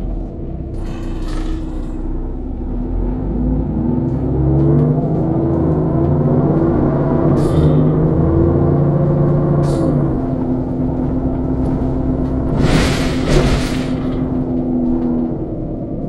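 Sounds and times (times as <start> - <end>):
bus diesel engine: 0.0 - 16.0.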